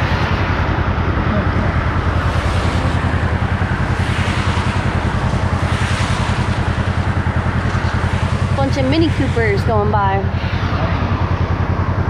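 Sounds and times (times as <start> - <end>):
engine running steadily: 0.0 - 12.0
wind noise: 0.0 - 12.0.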